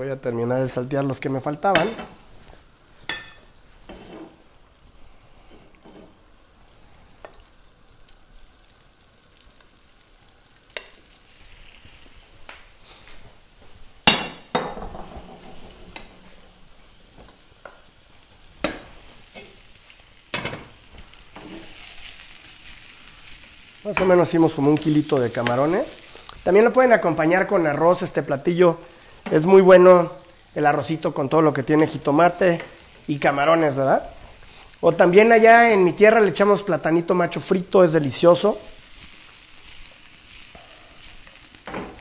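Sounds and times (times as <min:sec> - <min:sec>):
shrimp sizzling in a frying pan: 0:00.0 - 0:42.0.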